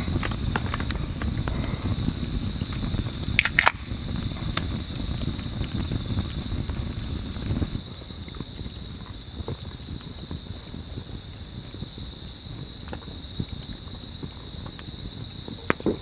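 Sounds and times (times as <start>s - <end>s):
campfire crackling: 0.0s - 16.0s
crickets trilling: 0.0s - 16.0s
steady insect hum: 0.0s - 16.0s.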